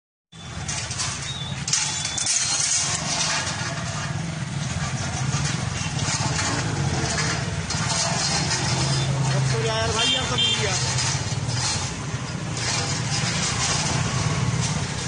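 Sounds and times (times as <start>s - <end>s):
street noise hiss: 0.4s - 15.0s.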